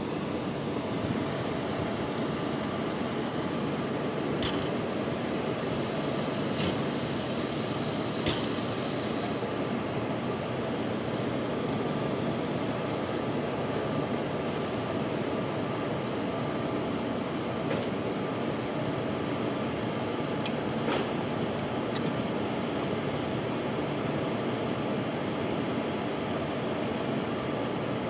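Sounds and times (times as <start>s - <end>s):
locomotive machinery humming: 0.0s - 28.0s.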